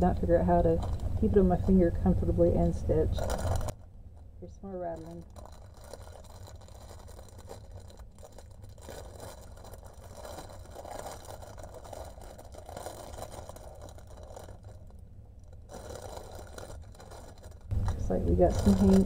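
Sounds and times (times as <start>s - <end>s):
low steady hum: 0.0s - 19.0s
plastic bag crinkling: 0.2s - 19.0s.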